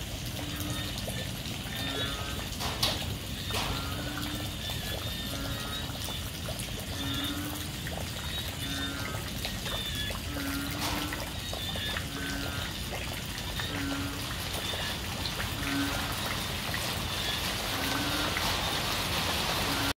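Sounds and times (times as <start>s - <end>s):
heavy rain: 0.0s - 20.0s
running water: 0.0s - 20.0s
frogs pulsed high calls: 0.1s - 18.8s
frog low calls: 0.2s - 18.5s, 19.7s - 19.9s.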